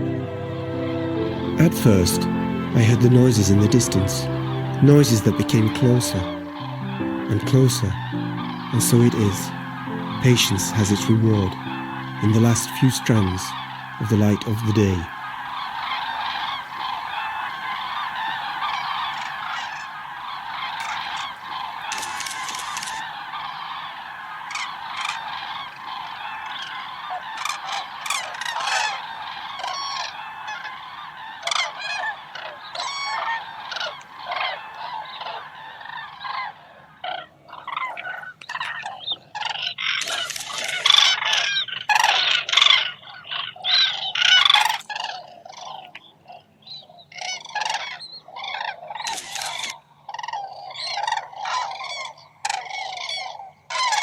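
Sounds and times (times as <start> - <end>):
cranes calling: 0.0 - 46.4, 47.0 - 54.0.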